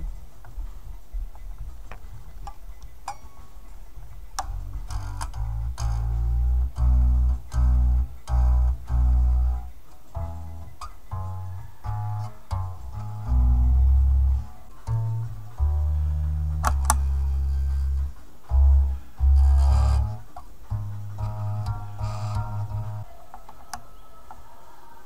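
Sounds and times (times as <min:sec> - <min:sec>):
distorted electric guitar: 0:00.0 - 0:23.1.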